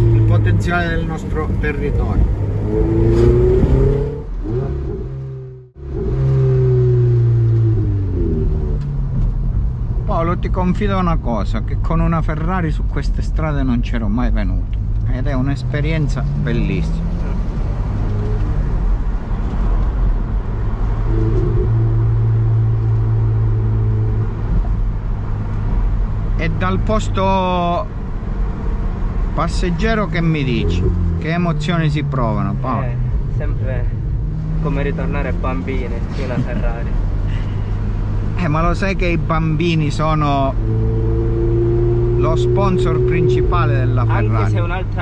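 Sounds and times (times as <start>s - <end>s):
car engine accelerating: 0.0s - 10.3s, 14.1s - 45.0s.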